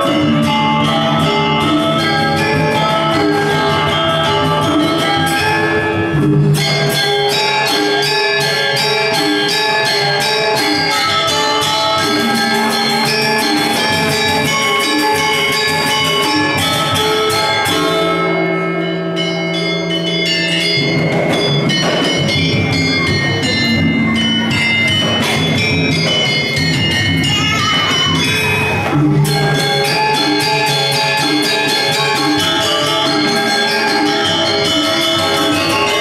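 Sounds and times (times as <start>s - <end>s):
gamelan metallophone strikes: 0.0s - 36.0s.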